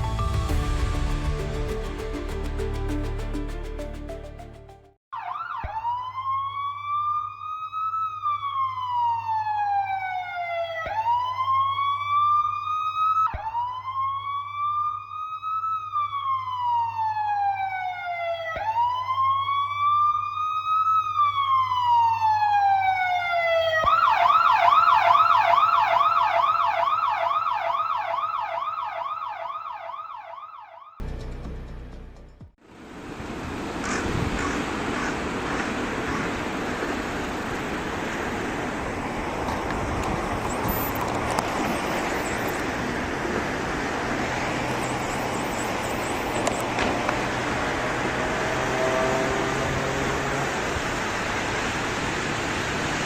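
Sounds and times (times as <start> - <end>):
emergency vehicle siren wailing: 5.1 - 31.1, 35.2 - 53.0.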